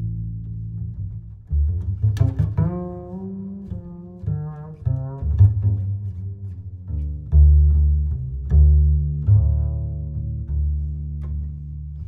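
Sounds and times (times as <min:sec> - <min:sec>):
low-pitched instrumental music: 0:00.0 - 0:12.0.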